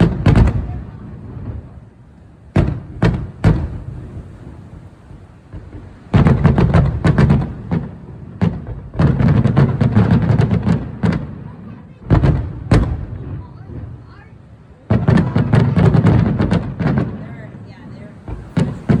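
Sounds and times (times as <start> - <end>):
fireworks bangs: 0.0 - 19.0
rapid-fire fireworks volleys: 0.0 - 19.0.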